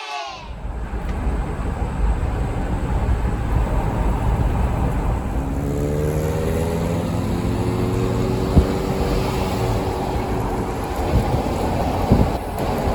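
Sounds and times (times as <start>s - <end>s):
road rumble: 0.2s - 12.9s
car engine hum: 0.4s - 12.9s.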